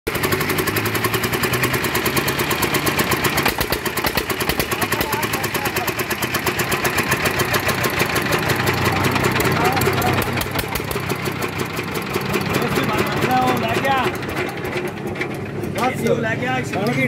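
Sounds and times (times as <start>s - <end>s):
stationary diesel engine running: 0.1s - 17.0s.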